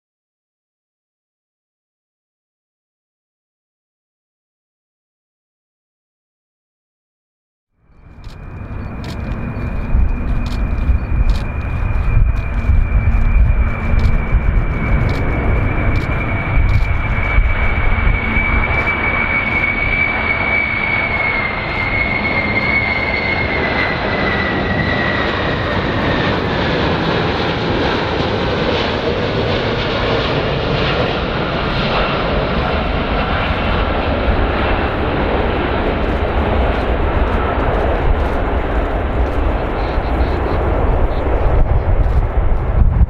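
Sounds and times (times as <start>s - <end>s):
airplane engines running: 7.8s - 43.0s
high engine whine falling: 7.9s - 43.0s.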